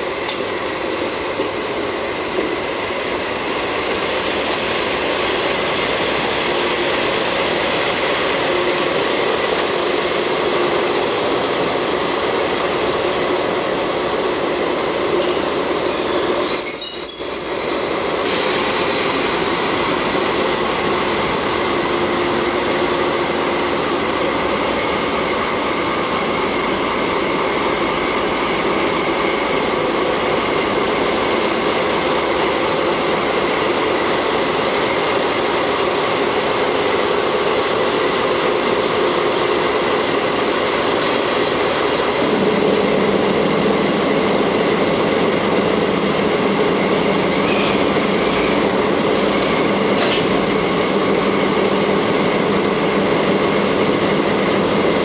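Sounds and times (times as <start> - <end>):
locomotive diesel engines running: 0.0 - 55.0.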